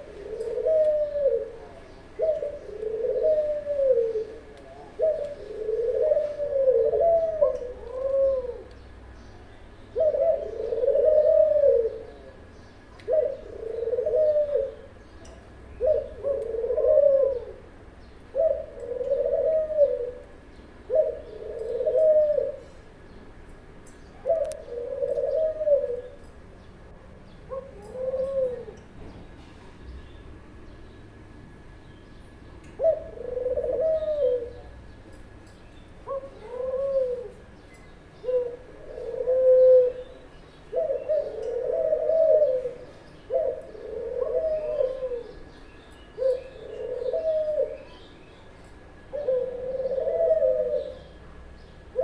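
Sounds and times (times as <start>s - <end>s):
doves cooing: 0.0s - 9.0s, 9.9s - 29.2s, 32.6s - 52.0s.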